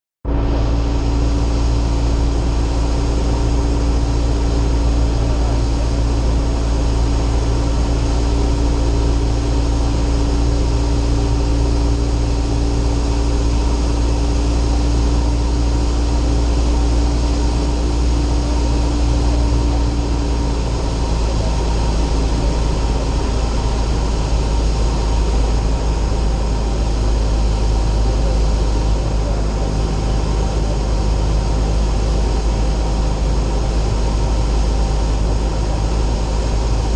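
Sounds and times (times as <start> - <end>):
propeller airplane engine drone: 0.2 - 36.9.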